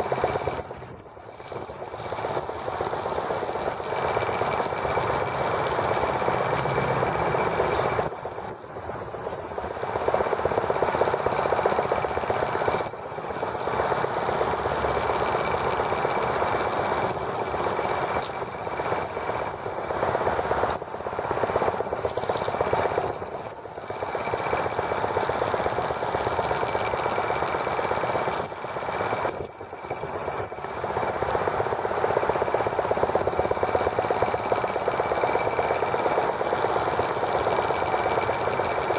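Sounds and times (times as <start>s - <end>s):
toy tractor engine running fast: 0.0s - 38.9s.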